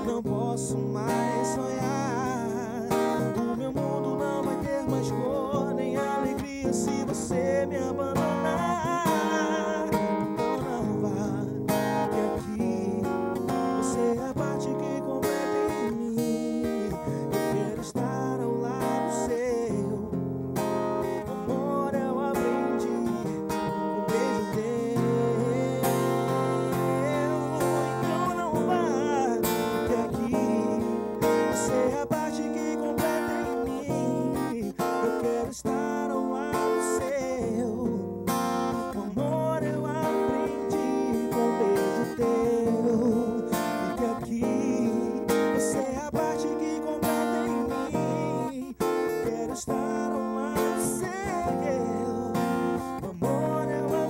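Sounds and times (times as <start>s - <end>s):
man singing: 0.0s - 54.0s
strummed acoustic guitar: 0.0s - 54.0s.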